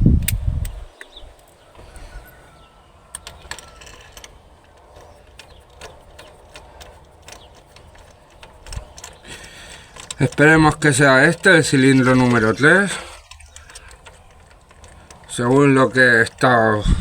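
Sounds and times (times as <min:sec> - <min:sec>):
hand tools and parts clicking: 0:00.1 - 0:16.8.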